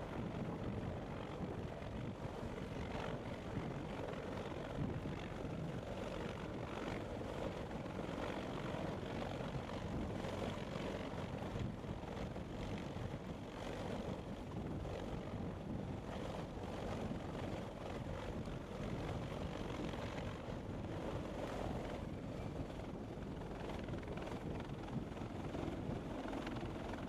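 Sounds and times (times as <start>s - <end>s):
helicopter hovering: 0.0s - 27.0s.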